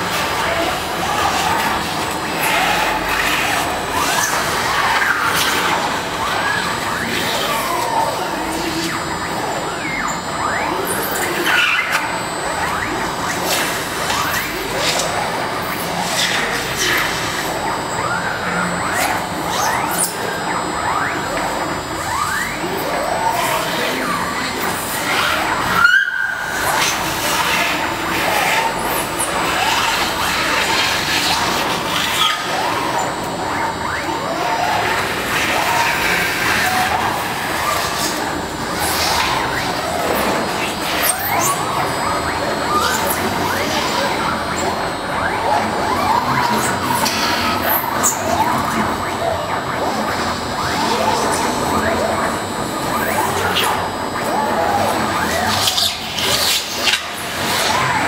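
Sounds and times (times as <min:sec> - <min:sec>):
cnc router milling whir: 0:00.0 - 0:58.0.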